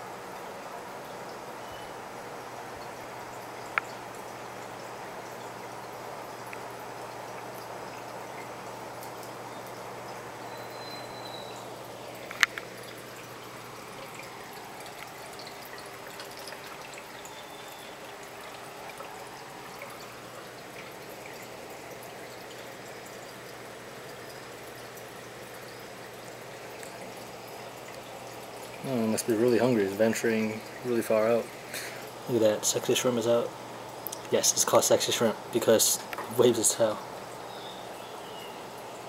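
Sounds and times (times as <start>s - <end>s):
water trickling: 0.0s - 39.0s.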